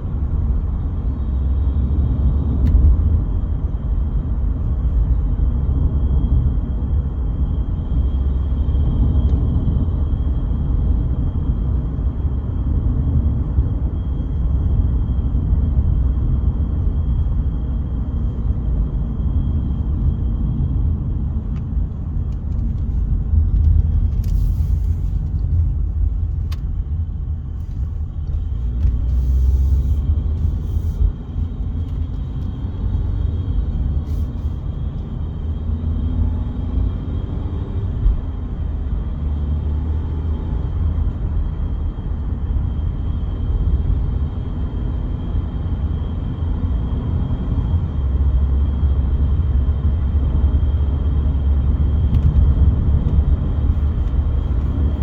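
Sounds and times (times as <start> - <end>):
low road and engine rumble: 0.0 - 55.0.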